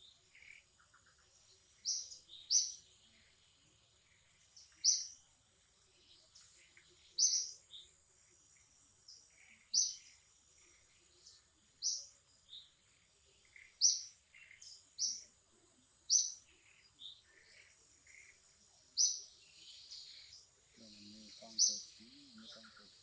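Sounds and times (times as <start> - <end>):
birds chirping: 0.0 - 23.0
faint high-pitched insect buzz: 0.0 - 23.0.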